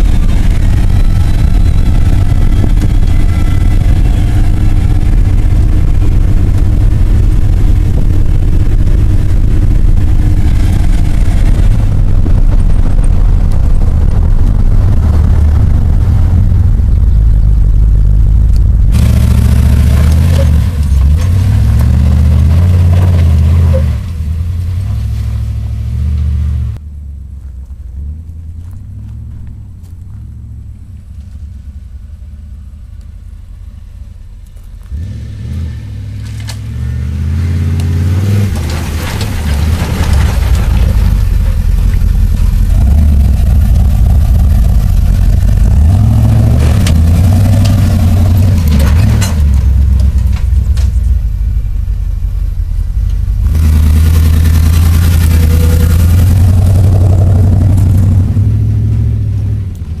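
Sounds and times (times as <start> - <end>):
pickup truck engine revving: 0.0 - 26.8, 34.8 - 60.0.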